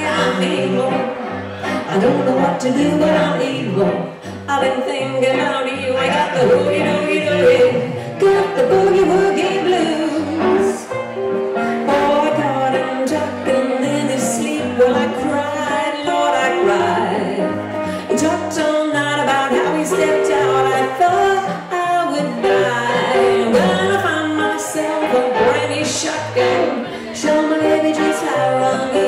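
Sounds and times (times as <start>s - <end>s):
electric guitar blues: 0.0s - 29.0s.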